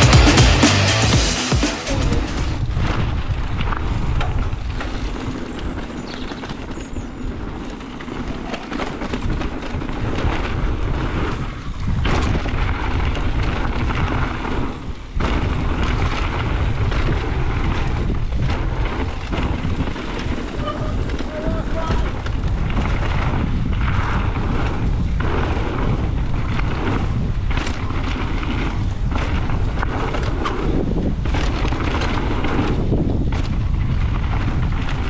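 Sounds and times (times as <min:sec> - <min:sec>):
wind buffeting microphone: 0:02.6 - 0:35.0.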